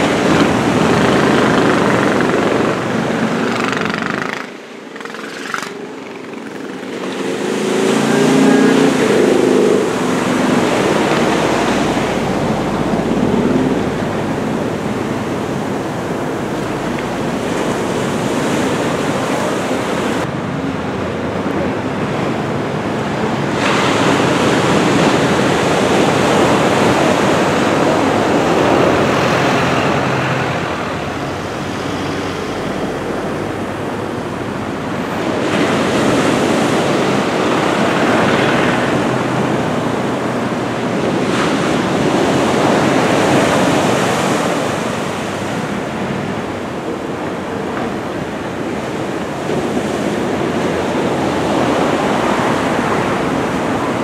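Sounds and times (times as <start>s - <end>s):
waves breaking on beach: 0.0s - 54.0s
wind noise on microphone: 0.0s - 54.0s.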